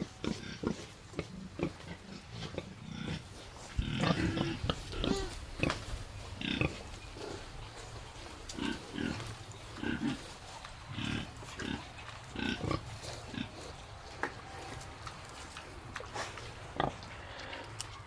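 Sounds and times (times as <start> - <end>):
pigs grunting: 0.0 - 14.9, 15.6 - 18.0.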